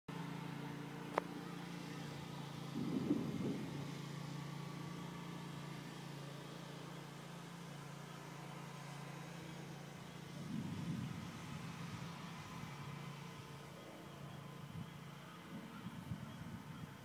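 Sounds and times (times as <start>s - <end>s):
motor humming: 0.1s - 17.0s.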